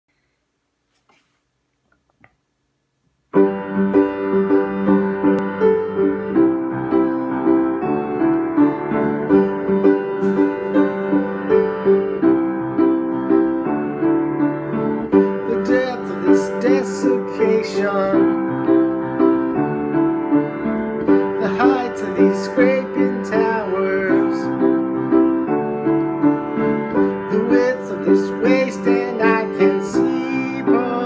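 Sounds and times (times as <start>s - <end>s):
solo piano: 3.3s - 31.0s.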